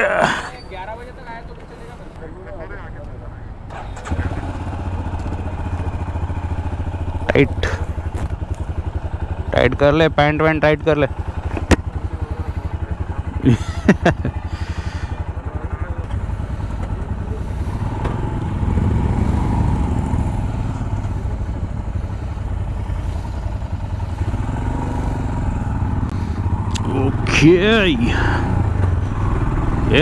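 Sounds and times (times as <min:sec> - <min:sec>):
motorcycle engine thumping: 0:03.7 - 0:30.0.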